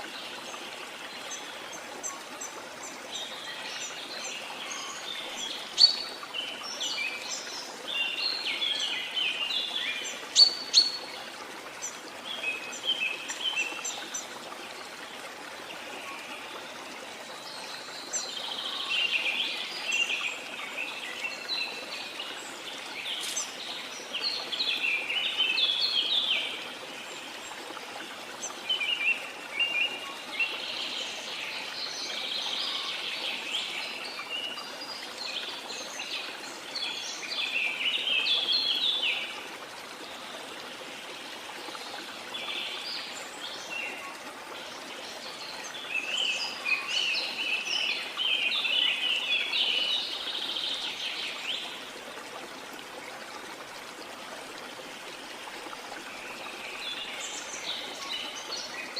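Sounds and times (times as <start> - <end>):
rushing water: 0.0 - 58.9.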